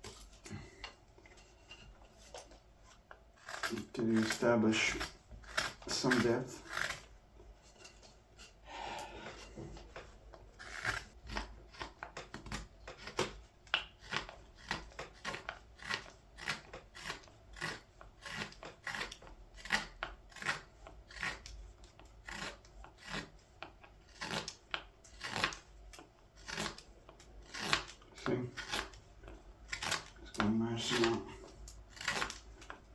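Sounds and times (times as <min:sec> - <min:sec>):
scraping cuts into wood: 0:01.4 - 0:08.6, 0:09.2 - 0:29.0, 0:29.6 - 0:32.9.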